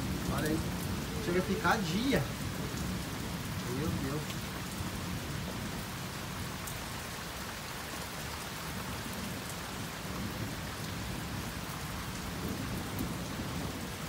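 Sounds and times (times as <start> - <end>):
thunder rumbling: 0.0 - 6.6, 8.8 - 14.0
rain falling: 0.0 - 14.0.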